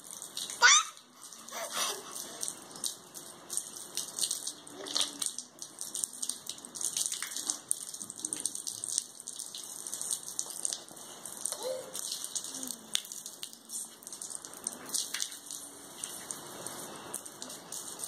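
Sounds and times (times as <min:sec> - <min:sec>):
hose water splashing on concrete: 0:00.0 - 0:18.0.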